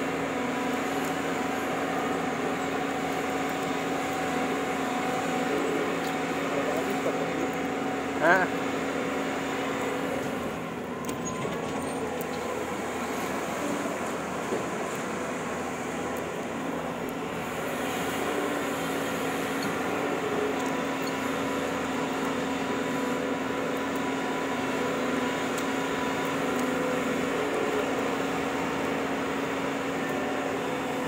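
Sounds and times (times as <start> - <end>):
heavy vehicle engine running: 0.0 - 31.0.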